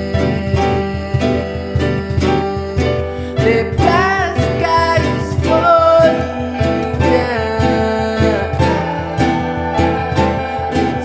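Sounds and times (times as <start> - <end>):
acoustic guitar song: 0.0 - 11.0.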